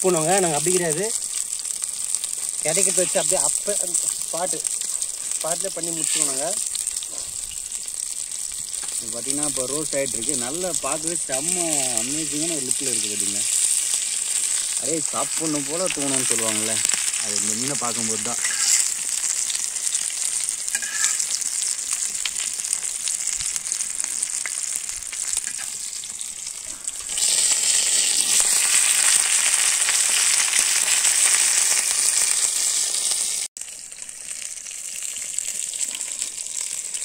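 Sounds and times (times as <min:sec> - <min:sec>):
fish frying in oil: 0:00.0 - 0:37.0.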